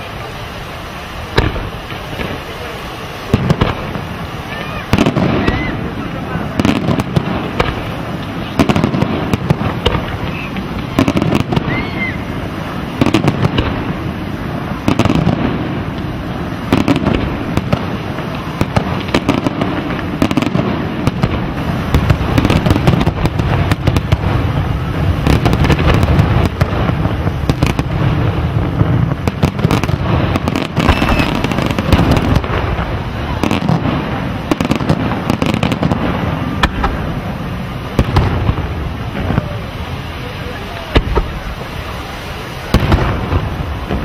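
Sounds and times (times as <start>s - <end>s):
firework shells bursting: 1.3s - 14.1s, 14.8s - 39.6s, 40.8s - 41.7s.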